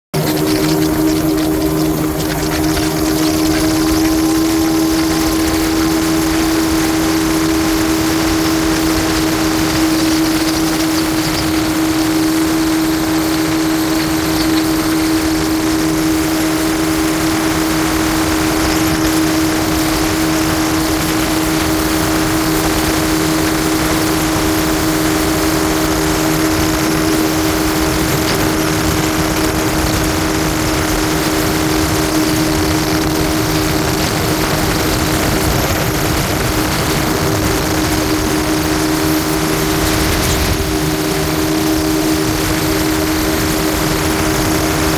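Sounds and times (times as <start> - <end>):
jet ski engine drone: 0.1 - 44.9
rushing noise: 0.2 - 44.9.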